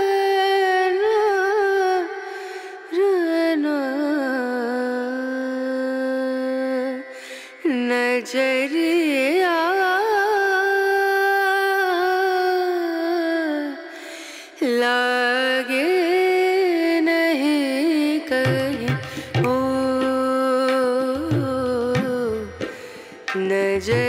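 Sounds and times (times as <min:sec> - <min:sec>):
solo voice singing: 0:00.0 - 0:24.0.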